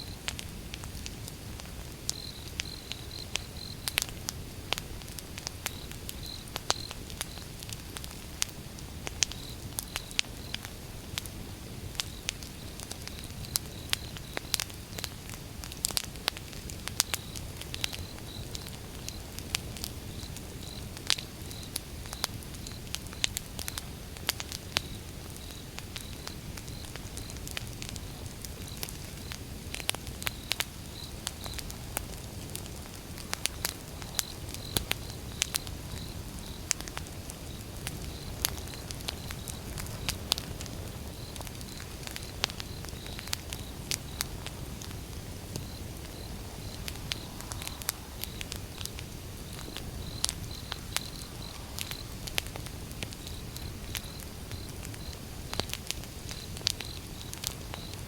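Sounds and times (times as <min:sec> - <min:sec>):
fire crackling and popping: 0:00.0 - 0:58.0
low rumble of flame: 0:00.0 - 0:58.0.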